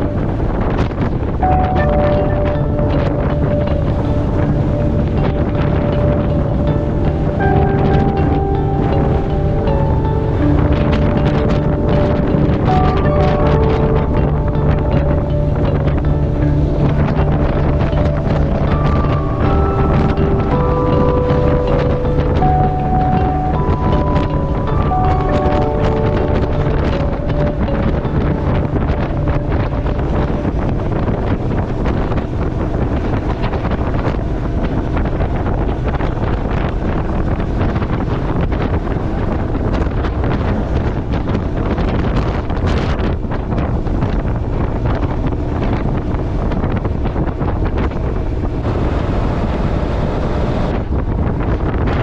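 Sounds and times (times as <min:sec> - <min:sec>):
road noise: 0:00.0 - 0:52.0
wind rushing over microphone: 0:00.0 - 0:52.0.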